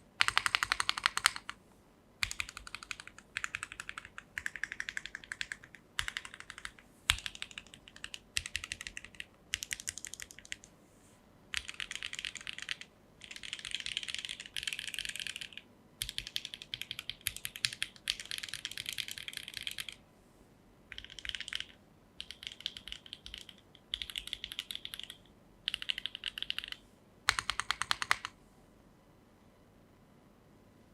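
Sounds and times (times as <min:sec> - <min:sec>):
fast typing on mechanical keyboard: 0:00.2 - 0:01.6, 0:02.2 - 0:10.7, 0:11.5 - 0:20.0, 0:20.9 - 0:28.3.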